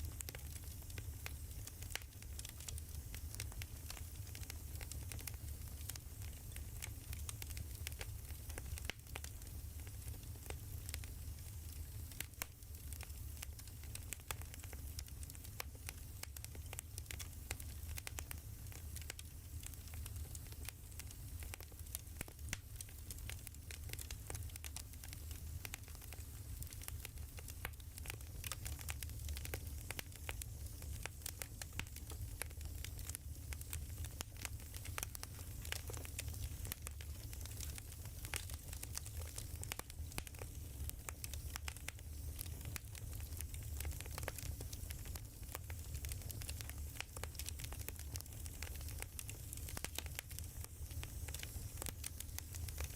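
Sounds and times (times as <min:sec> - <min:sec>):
firewood crackling and popping: 0:00.0 - 0:52.9
low rumble of fire: 0:00.0 - 0:52.9.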